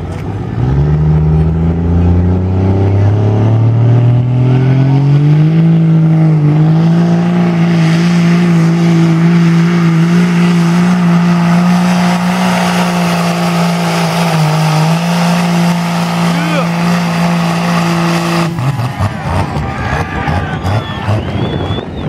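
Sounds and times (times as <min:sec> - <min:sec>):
diesel engine under full load: 0:00.0 - 0:22.0.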